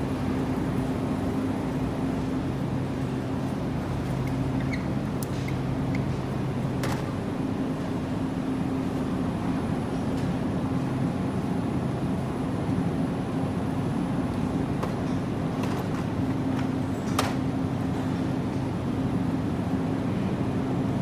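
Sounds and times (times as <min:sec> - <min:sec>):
refrigerated display case humming: 0:00.0 - 0:21.0.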